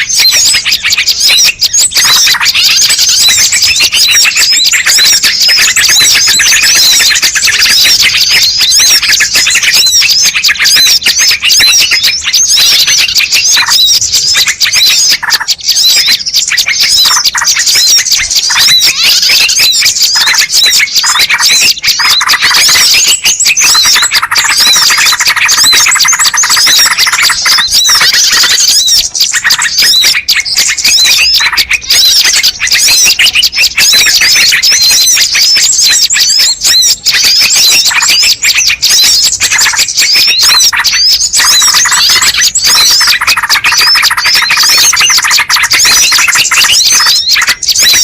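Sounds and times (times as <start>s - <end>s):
small birds chirping chorus: 0.0s - 48.0s.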